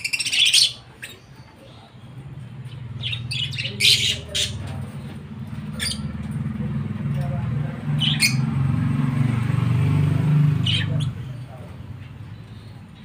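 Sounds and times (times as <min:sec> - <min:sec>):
lovebirds squawking: 0:00.0 - 0:09.3, 0:10.0 - 0:12.9.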